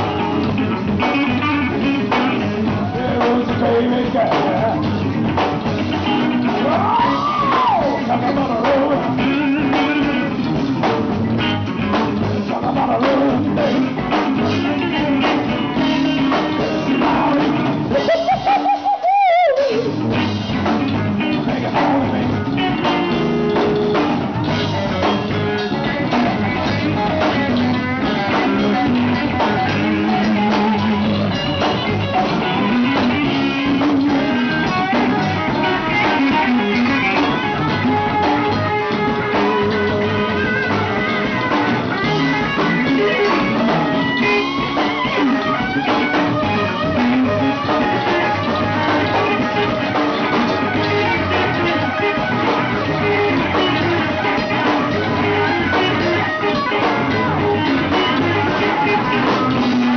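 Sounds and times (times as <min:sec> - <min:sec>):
bass guitar: 0:00.0 - 0:59.9
drum kit: 0:00.0 - 0:59.9
electric guitars: 0:00.0 - 0:59.9
person singing: 0:00.0 - 0:59.9.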